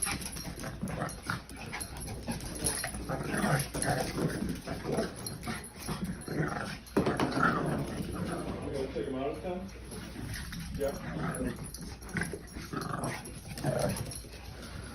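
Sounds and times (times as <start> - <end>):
dogs making playful vocal sounds: 0.0 - 8.6, 9.8 - 14.9.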